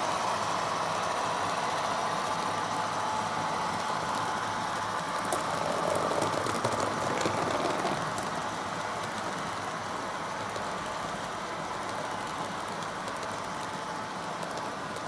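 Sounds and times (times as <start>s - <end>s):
model train mechanical hum: 0.0s - 15.0s
wheels clicking on rails: 0.0s - 15.0s.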